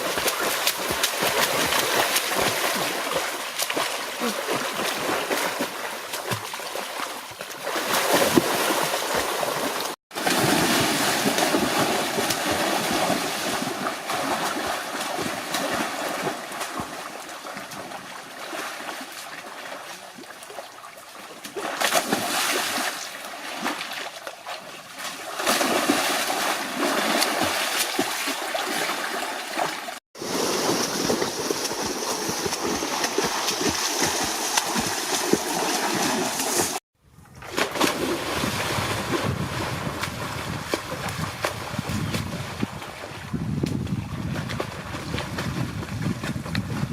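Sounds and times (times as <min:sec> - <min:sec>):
water splashing and sloshing: 0:00.0 - 0:46.9.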